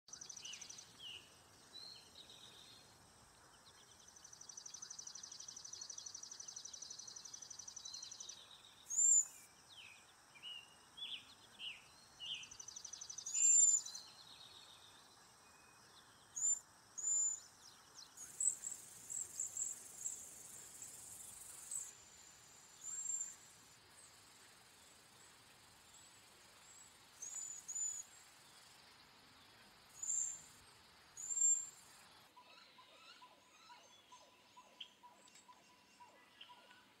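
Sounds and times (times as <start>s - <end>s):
lower bird chirps: 0.1s - 37.0s.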